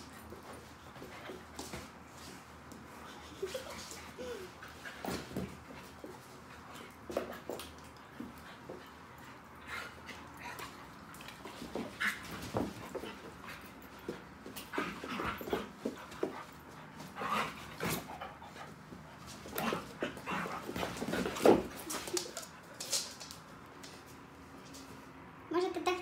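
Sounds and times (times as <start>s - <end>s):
dogs scuffling: 0.0s - 25.1s.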